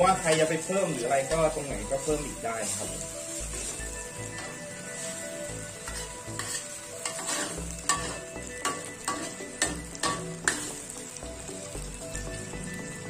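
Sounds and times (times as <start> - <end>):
spatula scraping a pan: 0.0 - 10.9
food sizzling in a pan: 0.0 - 13.0.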